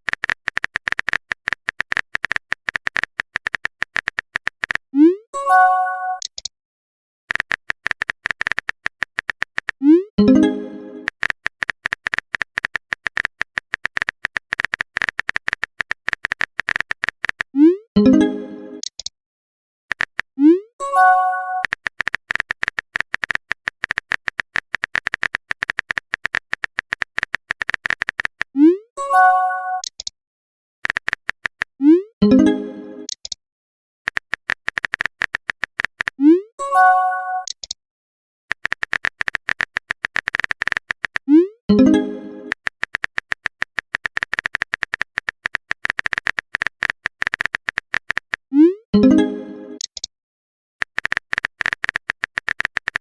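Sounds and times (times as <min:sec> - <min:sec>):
keyboard typing clicks: 0:00.0 - 0:04.9, 0:06.1 - 0:06.5, 0:07.3 - 0:19.1, 0:19.9 - 0:28.6, 0:29.2 - 0:30.1, 0:30.8 - 0:33.4, 0:34.1 - 0:36.4, 0:37.3 - 0:37.8, 0:38.5 - 0:50.1, 0:50.8 - 0:53.0.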